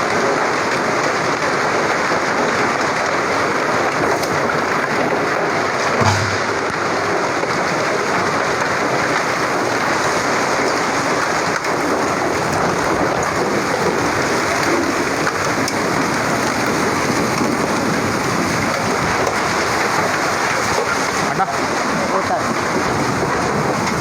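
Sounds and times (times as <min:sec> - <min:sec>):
heavy rain and hail hiss: 0:00.0 - 0:24.0.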